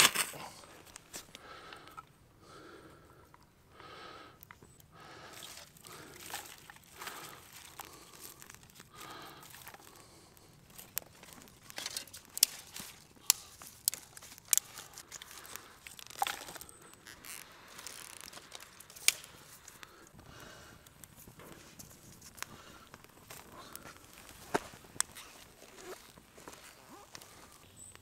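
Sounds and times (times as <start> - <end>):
wood crunching and crackling: 0.0 - 2.0, 4.4 - 28.0
firewood cracking: 0.0 - 2.6, 4.4 - 28.0.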